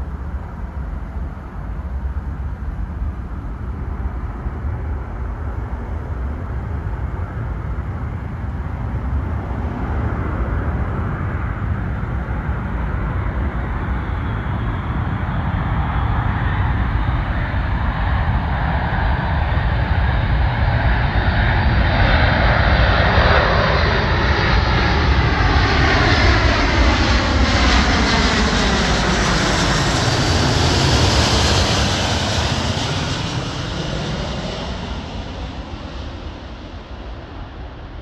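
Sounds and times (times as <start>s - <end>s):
jet aircraft passing overhead: 0.0s - 38.0s.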